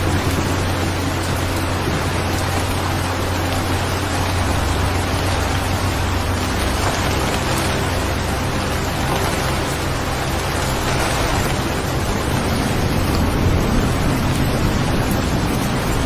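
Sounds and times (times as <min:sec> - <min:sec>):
low rumble: 0:00.0 - 0:16.0
rain hissing: 0:00.0 - 0:16.0.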